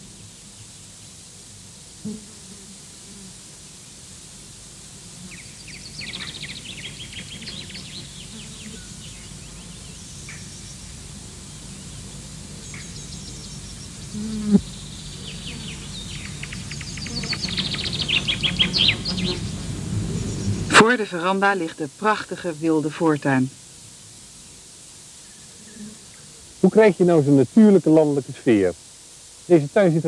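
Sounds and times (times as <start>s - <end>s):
steady low hum: 0.0s - 30.0s
songbirds chirping: 5.2s - 30.0s.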